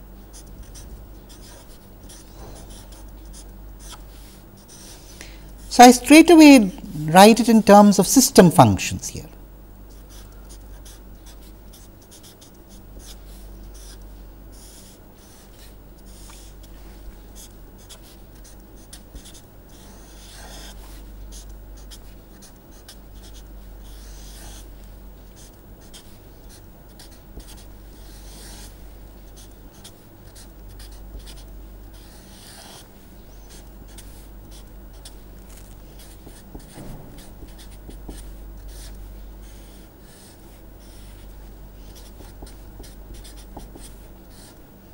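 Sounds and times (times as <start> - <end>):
steady low hum: 0.0 - 44.9
marker scratching on paper: 0.3 - 5.2, 9.9 - 44.6.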